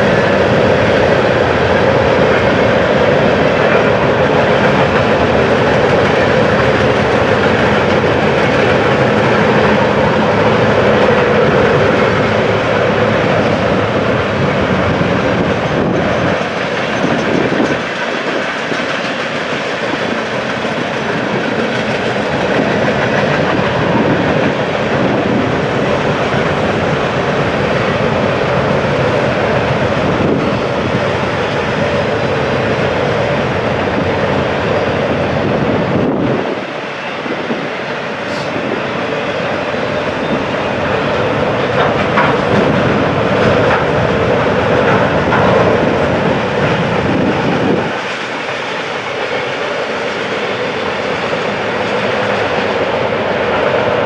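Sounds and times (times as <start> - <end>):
train rolling past: 0.0 - 54.0.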